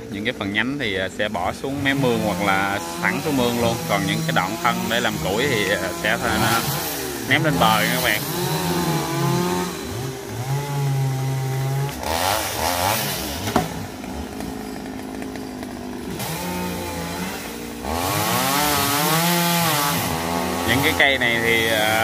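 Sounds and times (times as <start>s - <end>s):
chainsaws revving: 0.0s - 22.0s.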